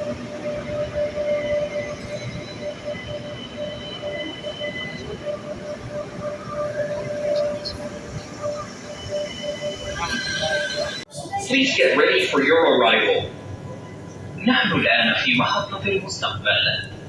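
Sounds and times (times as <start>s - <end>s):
electric train rumble and whine: 0.0s - 17.0s.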